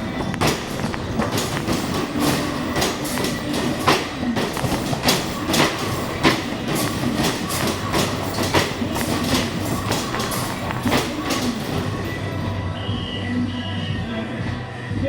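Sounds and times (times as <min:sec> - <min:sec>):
balls rattling down ramp: 0:00.0 - 0:12.6.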